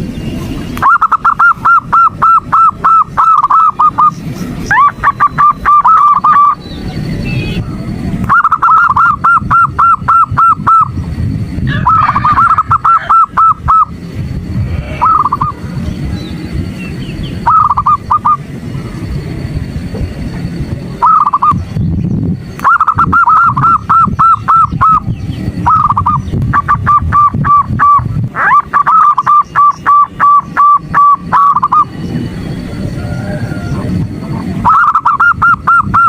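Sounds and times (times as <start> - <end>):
low background rumble: 0.0 - 36.0
dove cooing: 0.8 - 16.4, 17.1 - 19.2, 20.9 - 21.8, 22.6 - 32.1, 32.9 - 36.0.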